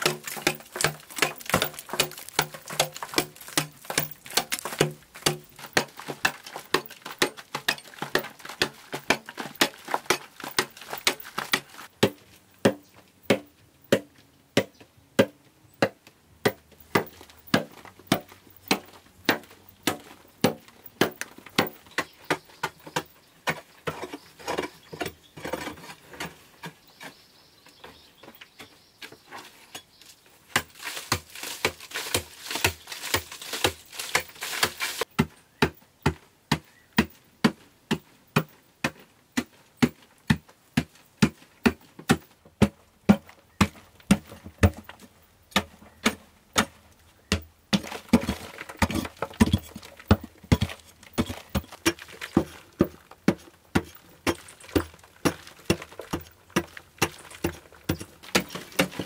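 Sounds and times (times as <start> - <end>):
pick striking earth wall: 0.0 - 27.2, 30.5 - 59.0.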